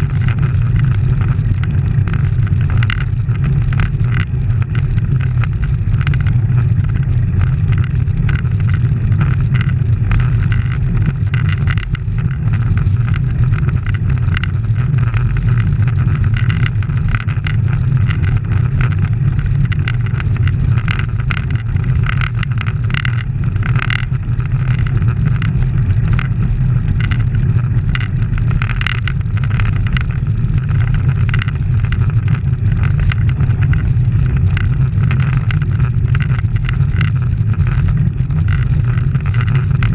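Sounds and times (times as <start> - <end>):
road rumble: 0.0 - 39.9
wind rush on microphone: 0.0 - 39.9.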